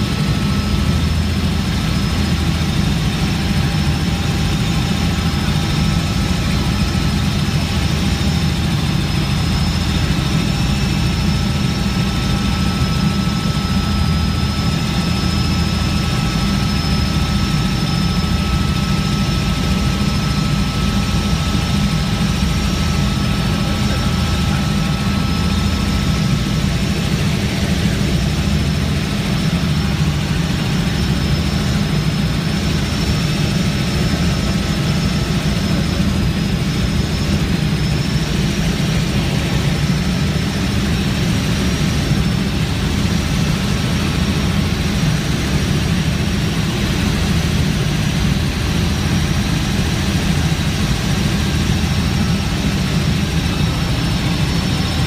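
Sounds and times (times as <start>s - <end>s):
helicopter rotor and engine drone: 0.0s - 55.0s.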